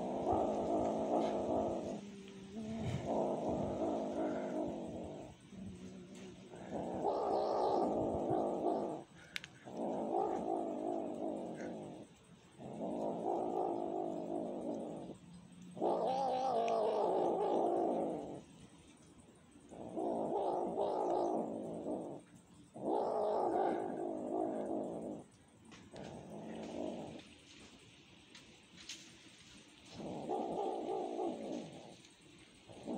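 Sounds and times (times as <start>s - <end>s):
kitten growling: 0.0s - 18.6s, 19.6s - 27.4s, 29.8s - 32.9s.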